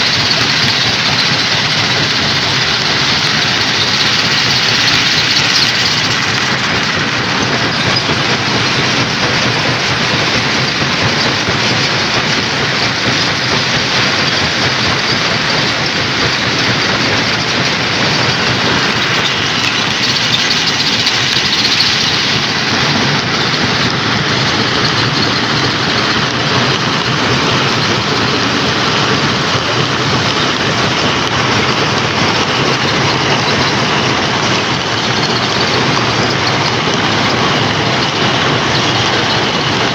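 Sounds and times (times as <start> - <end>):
stone crusher crushing rock: 0.0 - 39.9.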